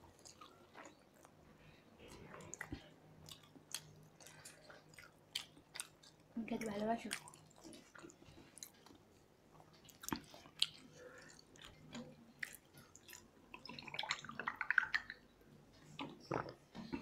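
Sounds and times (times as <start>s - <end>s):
people chewing and lip smacking: 0.0s - 17.0s
wet squishy eating sound: 0.1s - 15.3s.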